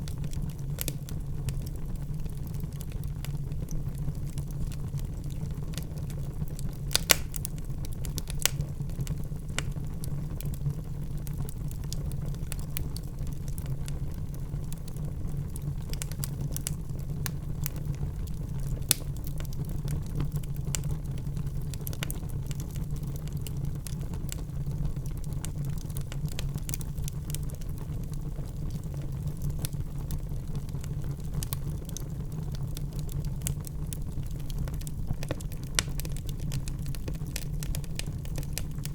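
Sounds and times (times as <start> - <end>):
burning logs crackling and popping: 0.0 - 38.9.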